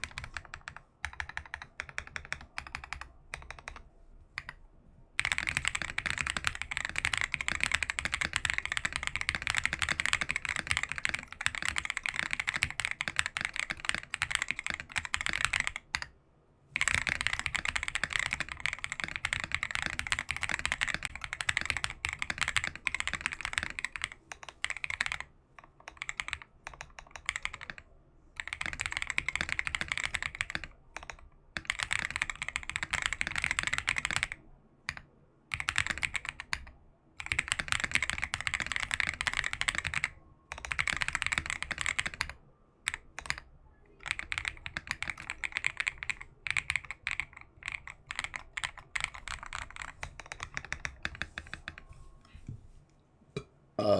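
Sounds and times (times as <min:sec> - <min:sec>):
fast typing on mechanical keyboard: 0:00.0 - 0:03.8, 0:04.4 - 0:04.6, 0:05.2 - 0:16.1, 0:16.8 - 0:51.9.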